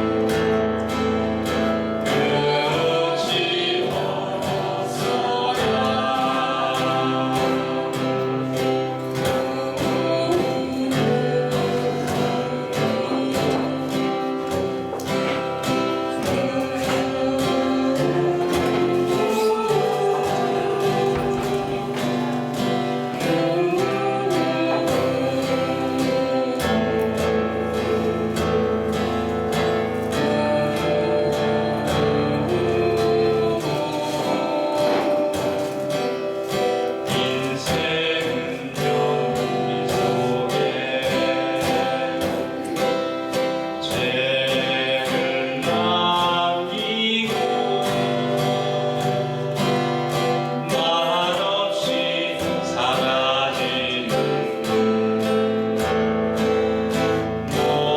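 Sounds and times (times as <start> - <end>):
acoustic guitar strummed: 0.0 - 57.9
two people singing folk song: 0.0 - 57.9.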